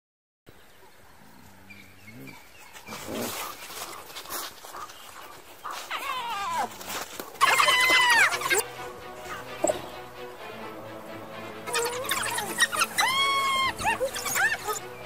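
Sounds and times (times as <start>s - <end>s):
wild dogs yelping and twittering: 0.8s - 9.9s, 11.6s - 15.0s.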